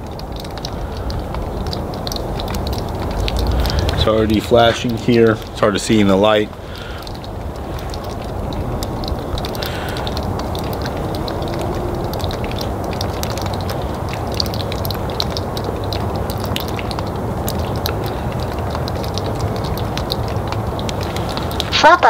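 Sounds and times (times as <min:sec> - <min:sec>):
low outdoor rumble: 0:00.0 - 0:22.0
faint ticks: 0:00.1 - 0:05.5, 0:06.5 - 0:21.8.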